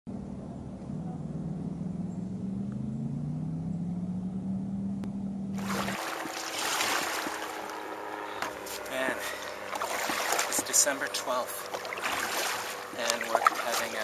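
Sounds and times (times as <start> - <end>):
distant engine drone: 0.1 - 14.0.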